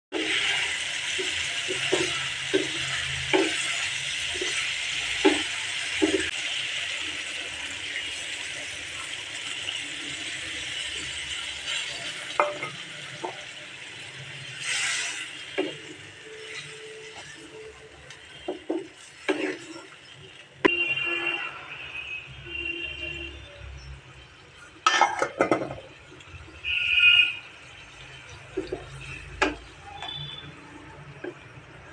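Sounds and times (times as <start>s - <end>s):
food sizzling in a pan: 0.1s - 22.2s, 23.0s - 31.9s.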